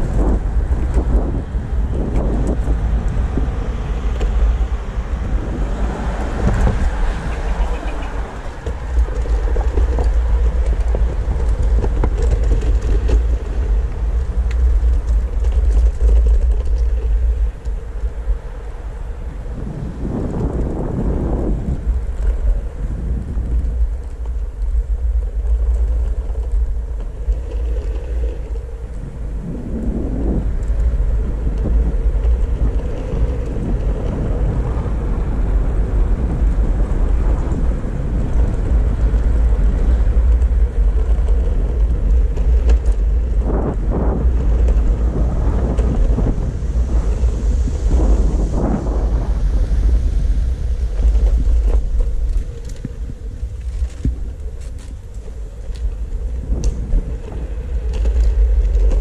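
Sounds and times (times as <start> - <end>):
skateboard wheels rolling: 0.0 - 59.0
wind on microphone: 0.0 - 59.0.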